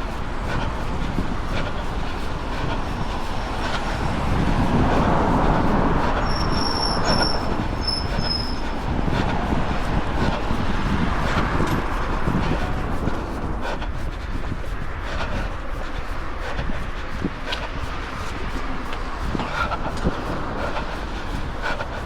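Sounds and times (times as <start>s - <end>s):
running footsteps: 0.0s - 22.0s
wind rumble on microphone: 0.0s - 22.0s.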